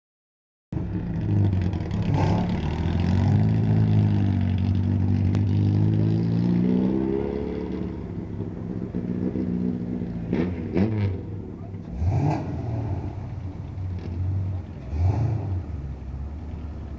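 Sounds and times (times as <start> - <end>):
car engine revving: 0.8 - 16.9.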